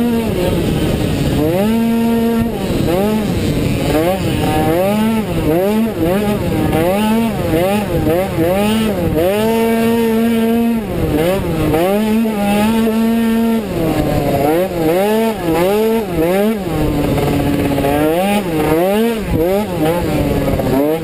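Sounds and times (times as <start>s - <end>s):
scooter engine revving: 0.0s - 21.0s.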